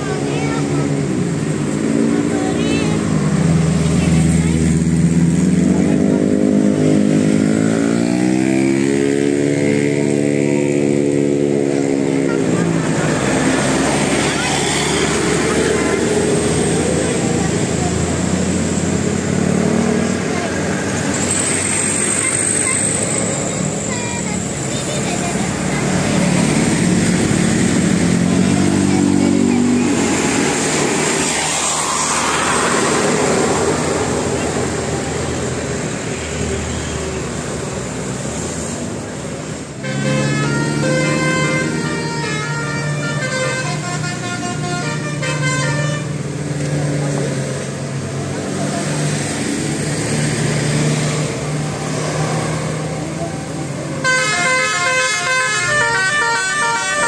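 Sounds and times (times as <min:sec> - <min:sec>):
vehicle engine accelerating: 0:00.0 - 0:42.0, 0:46.1 - 0:54.0
road traffic: 0:00.0 - 0:57.0.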